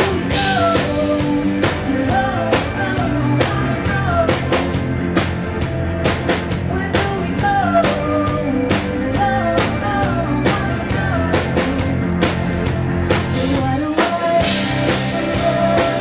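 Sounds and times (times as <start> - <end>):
woman singing: 0.0 - 4.8, 6.6 - 12.0, 13.3 - 16.0
drum kit beat: 0.0 - 16.0.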